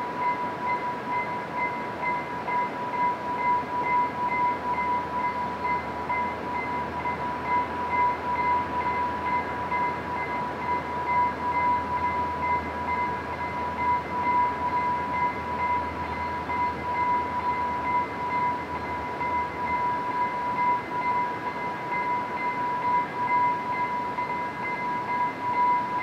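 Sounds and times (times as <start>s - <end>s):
level crossing warning bell: 0.0s - 26.0s.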